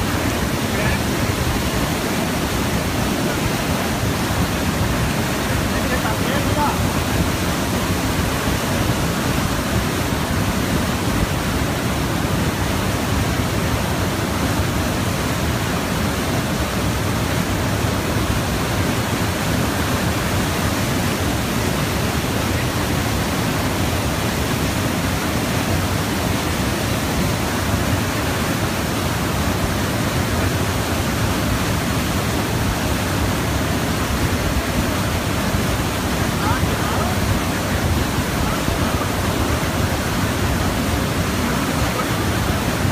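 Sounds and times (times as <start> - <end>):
rushing water: 0.0 - 42.9.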